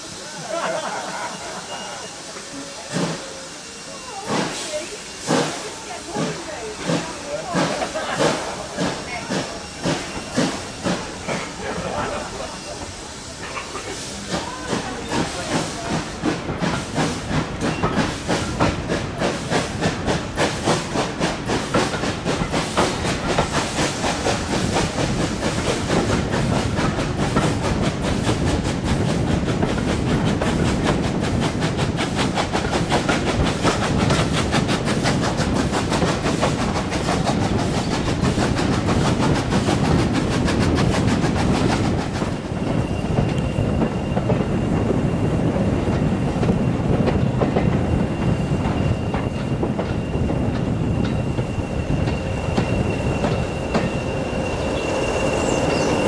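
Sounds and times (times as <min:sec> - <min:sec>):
steam locomotive exhaust beats: 0:01.1 - 0:56.0.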